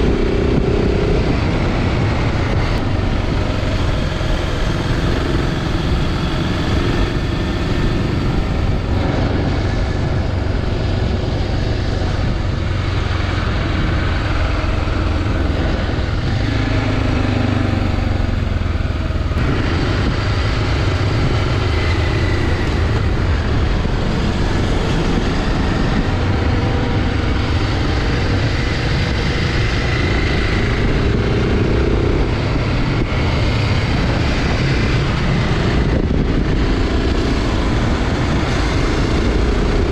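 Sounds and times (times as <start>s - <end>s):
motorcycle engine running: 0.0s - 39.9s
riding wind rush: 0.0s - 39.9s.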